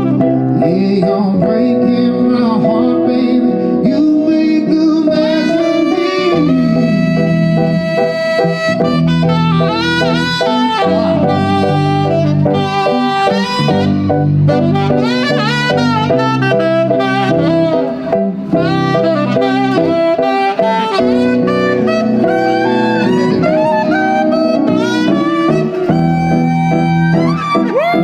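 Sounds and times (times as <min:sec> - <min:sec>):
saxophone solo: 0:00.0 - 0:00.6, 0:05.1 - 0:28.0
chord and bass accompaniment: 0:00.0 - 0:28.0.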